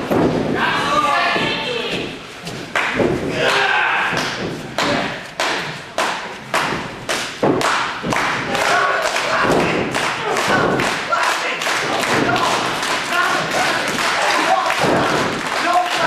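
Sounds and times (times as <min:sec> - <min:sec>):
wrestling thuds and slaps: 0:00.0 - 0:11.1, 0:11.7 - 0:16.0.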